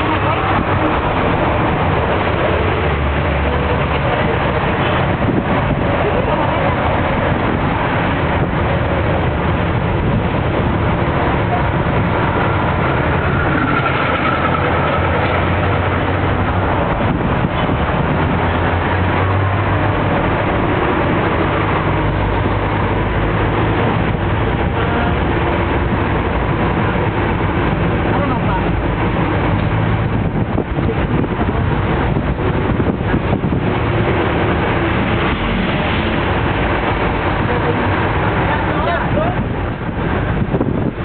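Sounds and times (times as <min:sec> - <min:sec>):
road noise: 0:00.0 - 0:41.0
vehicle engine drone: 0:00.0 - 0:41.0.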